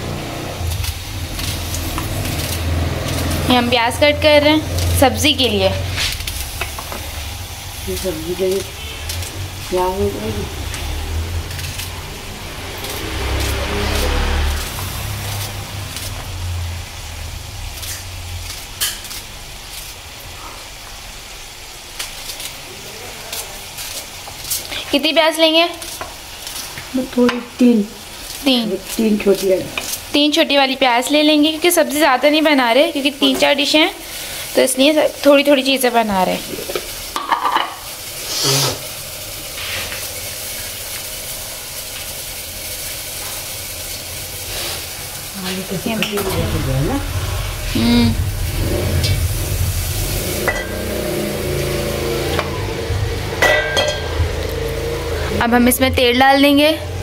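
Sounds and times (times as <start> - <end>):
cooking hiss on gas stove: 0.0 - 57.0.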